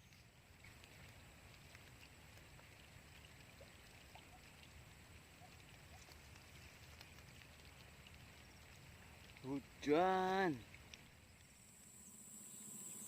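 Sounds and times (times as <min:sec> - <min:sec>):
faint ticks: 0:00.0 - 0:09.6, 0:10.4 - 0:11.8.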